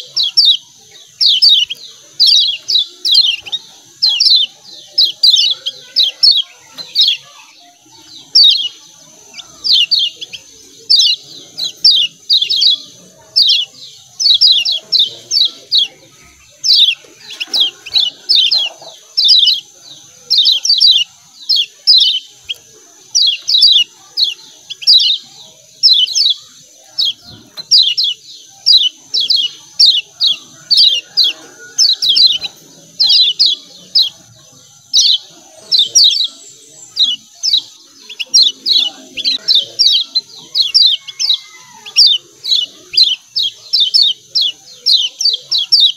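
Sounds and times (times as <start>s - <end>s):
bird chipping calls: 0.0s - 45.9s.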